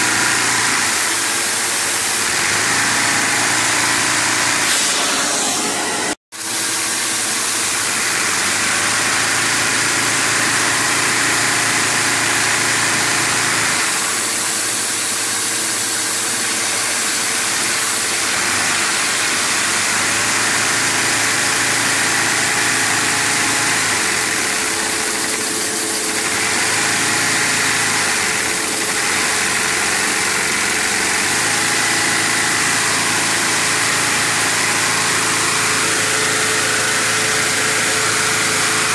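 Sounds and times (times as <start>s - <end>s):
vacuum cleaner and spinning engine hum: 0.0s - 38.9s.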